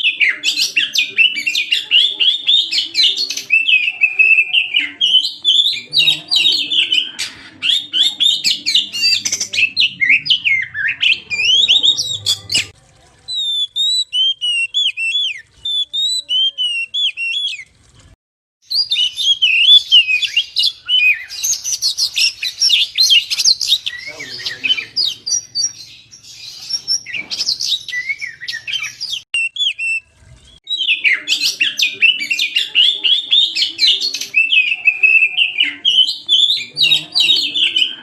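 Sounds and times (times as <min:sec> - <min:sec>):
songbird singing whistled phrases: 0:00.0 - 0:12.7, 0:13.3 - 0:17.7, 0:18.7 - 0:38.0.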